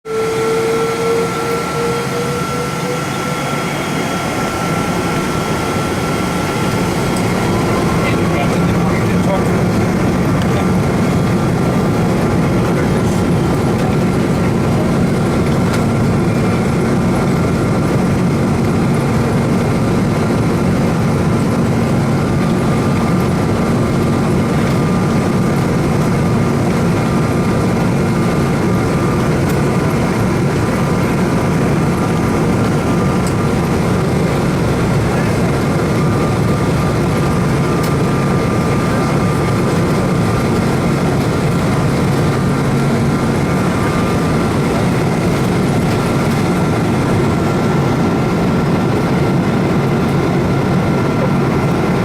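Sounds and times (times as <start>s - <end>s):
airliner rumbling on ground: 0.0s - 52.0s
jet engines humming and whining: 0.0s - 52.0s.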